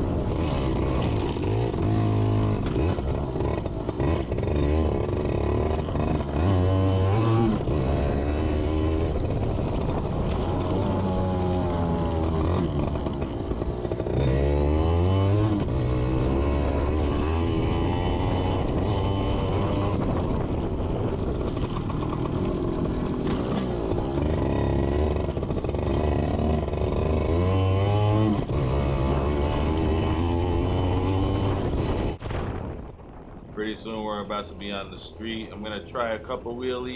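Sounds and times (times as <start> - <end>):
two-stroke motorbike engine revving: 0.0 - 32.2.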